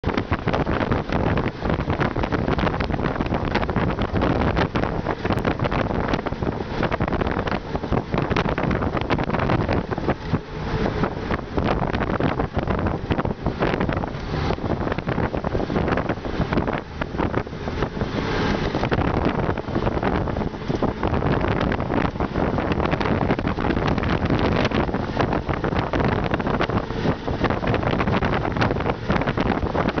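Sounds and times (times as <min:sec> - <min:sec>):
wind and road noise in vehicle: 0:00.0 - 0:30.0
wind buffeting microphone: 0:00.0 - 0:30.0.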